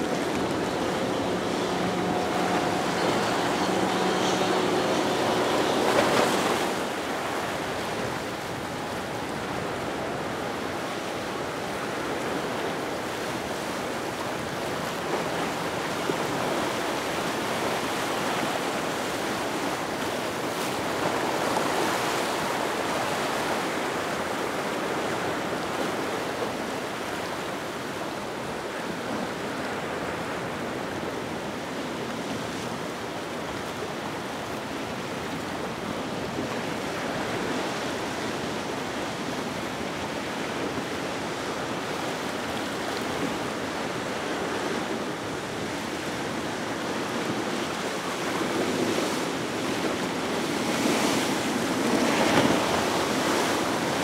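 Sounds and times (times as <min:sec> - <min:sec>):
waves breaking: 0:00.0 - 0:54.0
wind: 0:00.0 - 0:54.0.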